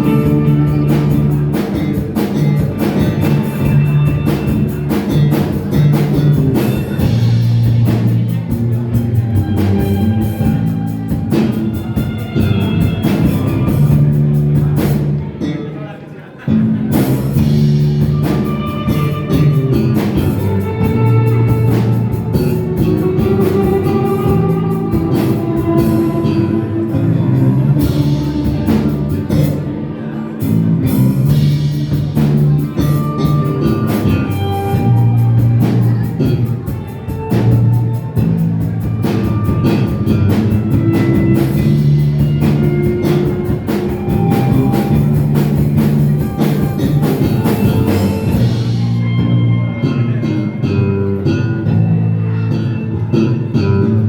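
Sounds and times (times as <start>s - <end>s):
drum kit beating: 0.0s - 15.5s, 16.5s - 54.0s
live rock band playing: 0.0s - 54.0s.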